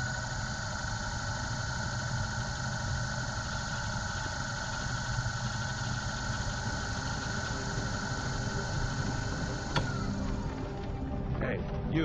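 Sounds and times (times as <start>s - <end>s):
lathe motor whine: 0.0s - 11.4s
low hum: 0.0s - 12.0s.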